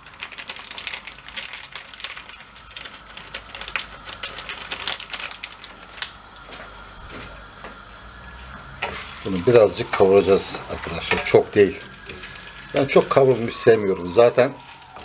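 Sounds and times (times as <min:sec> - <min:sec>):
butter sizzling in frying pan: 0:00.0 - 0:15.0.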